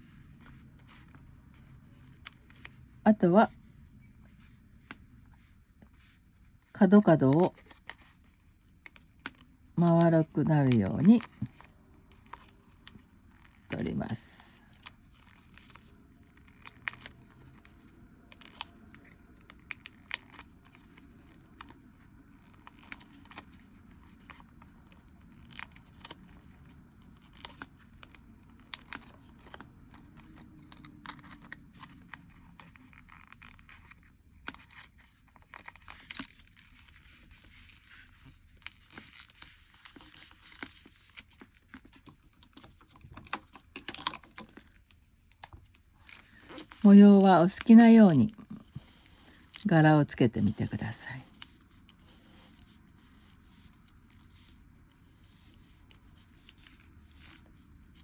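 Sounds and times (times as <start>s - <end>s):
paper crinkling and rustling: 7.2s - 58.0s.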